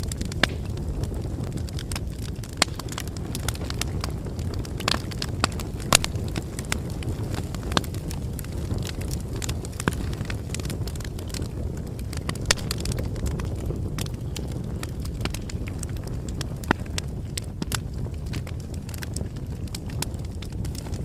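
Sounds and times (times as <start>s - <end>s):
bonfire burning and crackling: 0.0s - 21.0s.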